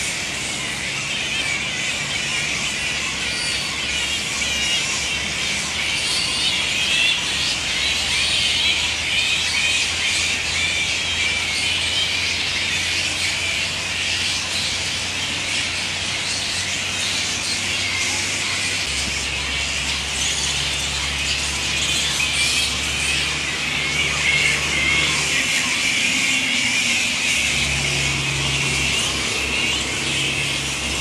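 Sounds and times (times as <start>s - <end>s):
bats squealing and chattering: 0.0s - 31.0s.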